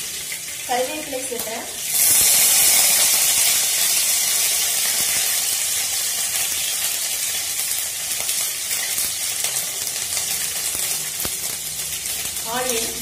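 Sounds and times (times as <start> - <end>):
hot oil sizzling in a pan: 0.0 - 13.0.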